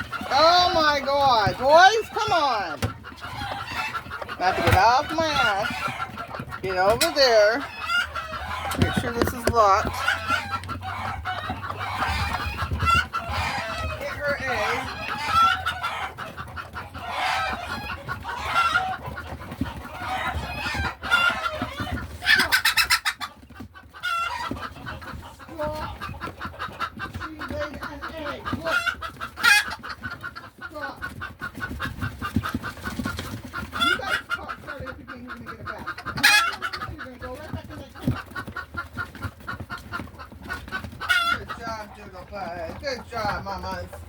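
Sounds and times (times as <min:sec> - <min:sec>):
hen clucking rapidly: 0:00.0 - 0:44.0
other chickens calling: 0:00.0 - 0:44.0.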